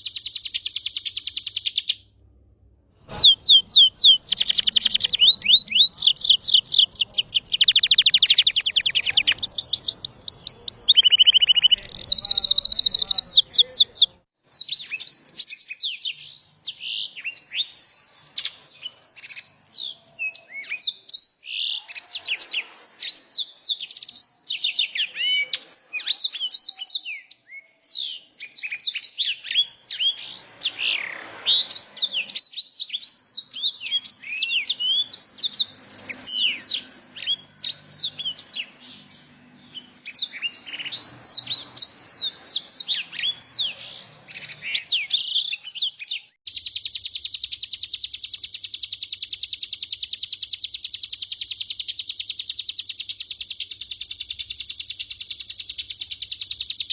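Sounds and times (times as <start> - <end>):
small songbirds singing: 0.0 - 56.9.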